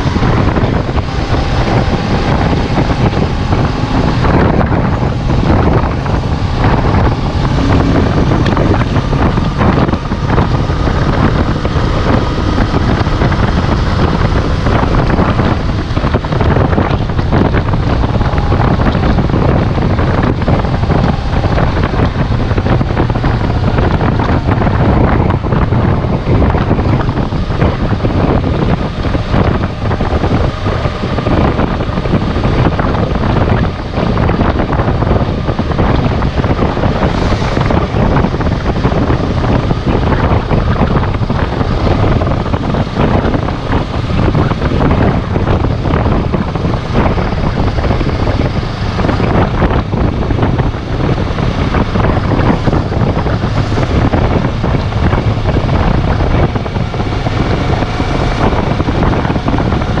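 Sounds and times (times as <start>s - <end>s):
motorcycle engine running: 0.0s - 60.0s
wind buffeting microphone: 0.0s - 60.0s.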